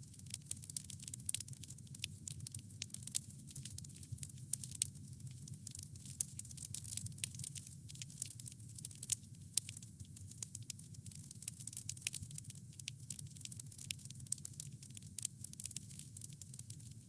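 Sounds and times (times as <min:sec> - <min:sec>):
wood fire crackling: 0:00.1 - 0:17.0.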